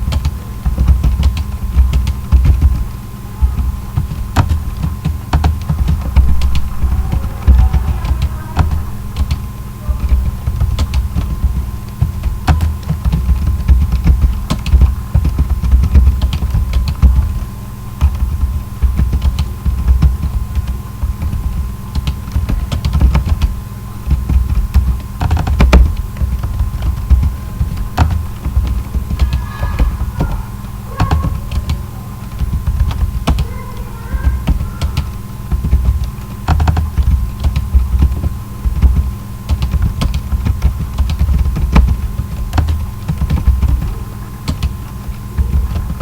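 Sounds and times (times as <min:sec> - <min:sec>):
low throbbing hum: 0:00.0 - 0:44.1
keyboard typing: 0:00.0 - 0:46.0.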